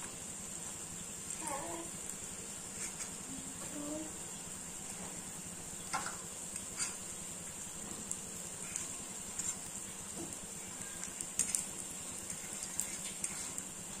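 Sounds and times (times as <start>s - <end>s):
cutlets sizzling in oil: 0.0s - 14.0s.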